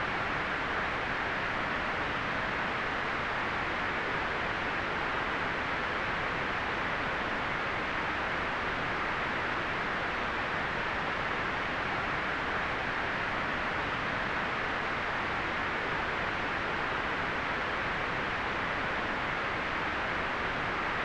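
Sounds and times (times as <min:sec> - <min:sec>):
white noise hiss: 0:00.0 - 0:21.0.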